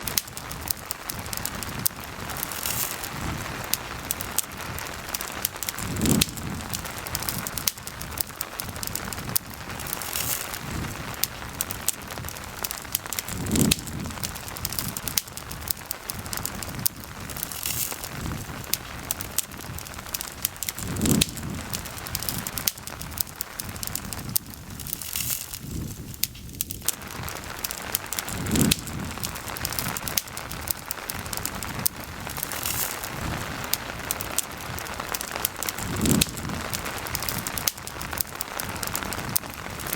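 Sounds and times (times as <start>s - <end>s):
campfire crackling and popping: 0.0s - 39.9s
steady rain: 0.0s - 39.9s.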